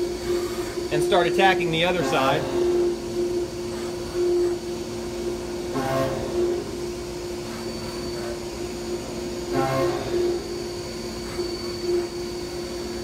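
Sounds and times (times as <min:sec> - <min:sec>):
milling machine spindle humming: 0:00.0 - 0:13.0.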